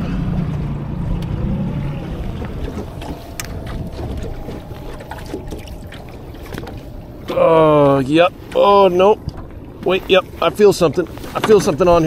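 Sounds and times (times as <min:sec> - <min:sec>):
faint steady whine: 0:00.6 - 0:12.0
water sloshing against hull: 0:01.5 - 0:12.0.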